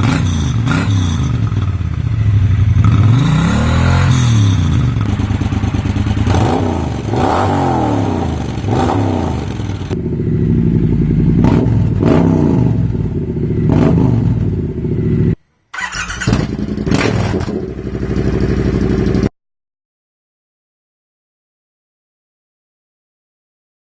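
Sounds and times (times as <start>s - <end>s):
motorcycle engine revving: 0.0s - 19.3s.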